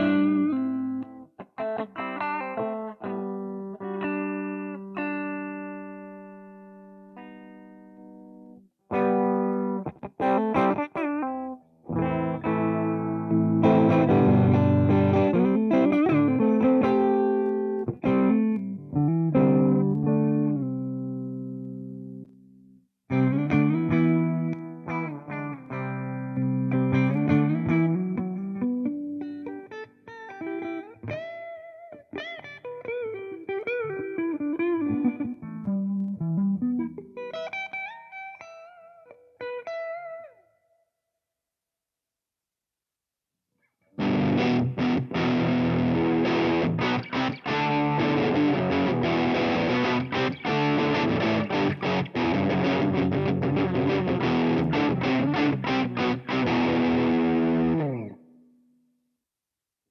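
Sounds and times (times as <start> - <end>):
distorted electric guitar: 0.0 - 22.4, 23.1 - 39.9, 44.0 - 58.4.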